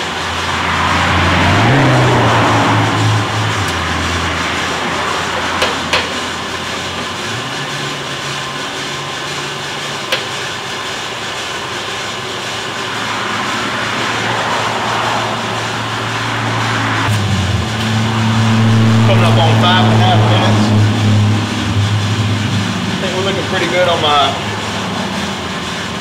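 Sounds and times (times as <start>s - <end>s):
coffee roaster running: 0.0s - 1.4s, 2.9s - 26.0s.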